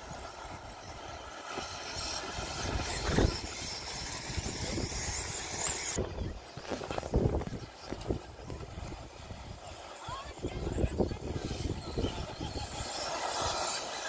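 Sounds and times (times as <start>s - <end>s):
rc car motor whine: 0.0s - 14.0s.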